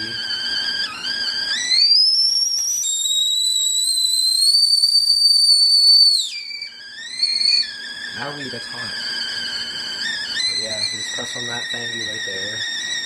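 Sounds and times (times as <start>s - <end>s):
shrill whistling tone: 0.0s - 13.0s.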